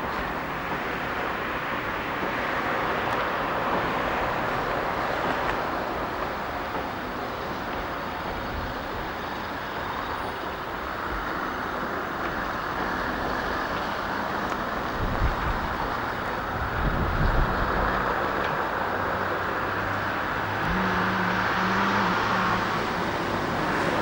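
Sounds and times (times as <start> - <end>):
diesel train running: 0.0 - 24.0.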